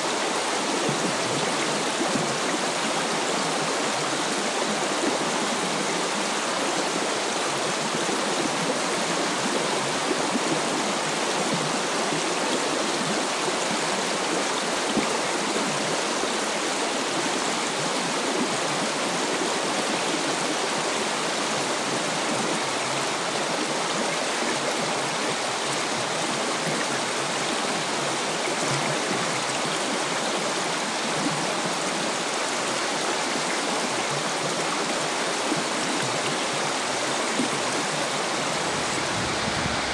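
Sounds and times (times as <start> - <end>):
river flowing over gravel: 0.0 - 39.9.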